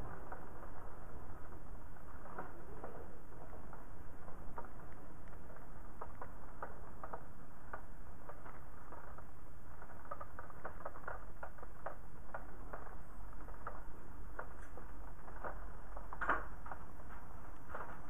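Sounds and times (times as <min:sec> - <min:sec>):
rain on window glass: 0:00.0 - 0:18.0.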